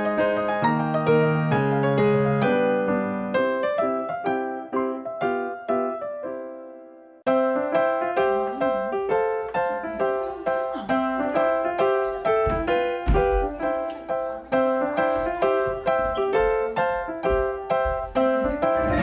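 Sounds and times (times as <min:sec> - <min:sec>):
light piano music: 0:00.0 - 0:19.0.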